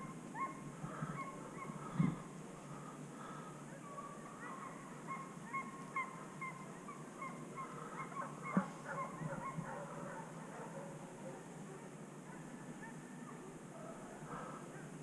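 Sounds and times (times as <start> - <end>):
distant animal calls: 0.0 - 15.0.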